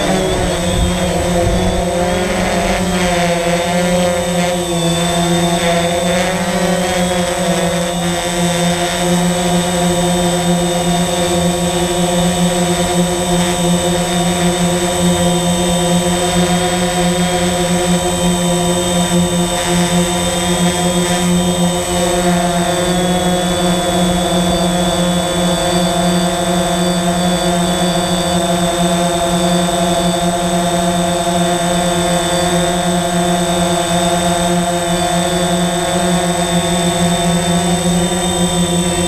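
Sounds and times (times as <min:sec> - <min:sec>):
drone motors humming: 0:00.0 - 0:39.0
high whine of propellers: 0:00.0 - 0:39.0.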